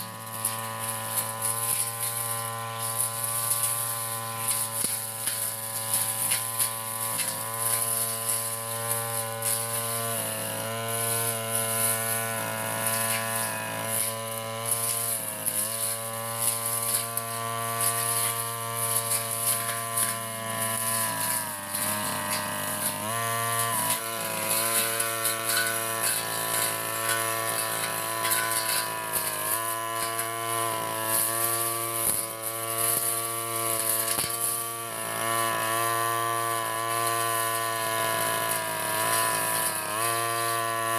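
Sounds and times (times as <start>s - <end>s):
brush cutter engine cutting grass: 0.0s - 40.9s.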